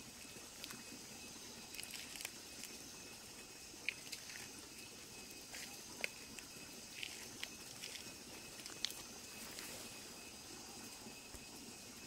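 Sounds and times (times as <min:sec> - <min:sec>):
high-pitched insect trilling: 0:00.0 - 0:12.0.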